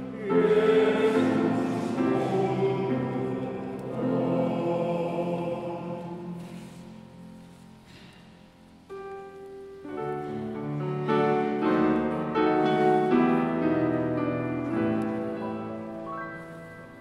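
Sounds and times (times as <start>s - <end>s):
grand piano playing chords: 0.0s - 17.0s.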